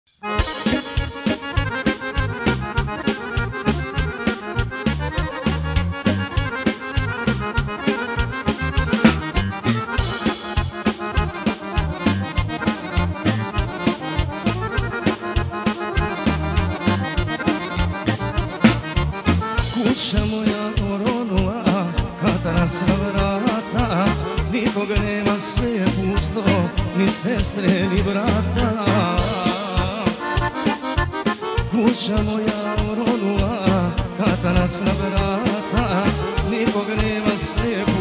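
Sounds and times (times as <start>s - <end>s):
keyboards: 0.1s - 38.0s
button accordion melody: 0.2s - 38.0s
electric guitar: 0.2s - 38.0s
steady beat: 0.3s - 38.0s.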